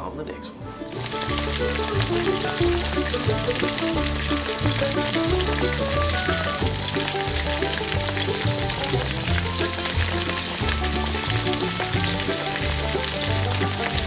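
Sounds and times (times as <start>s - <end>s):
music with low bass line: 0.7s - 14.0s
fish deep-frying in oil: 0.9s - 14.0s.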